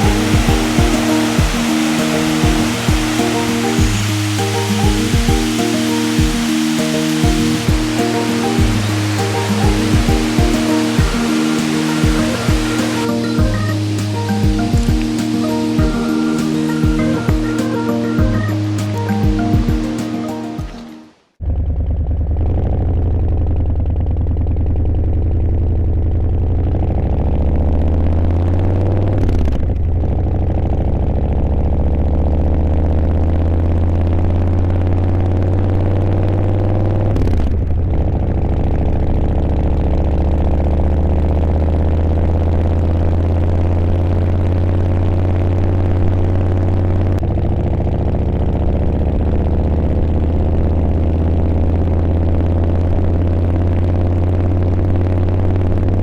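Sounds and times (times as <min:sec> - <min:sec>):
motorcycle engine accelerating: 0:00.0 - 0:19.9, 0:21.4 - 0:56.0.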